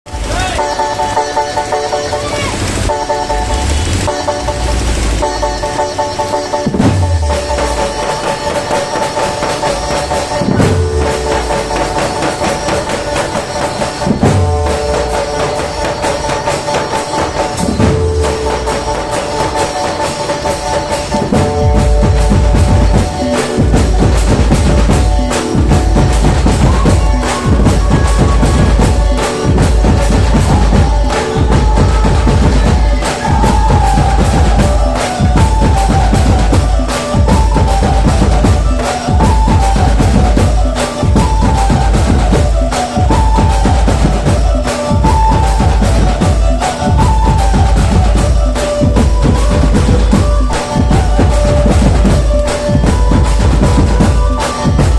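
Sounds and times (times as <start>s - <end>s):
devotional folk music: 0.1s - 54.9s
heavy drum beat: 0.1s - 54.9s.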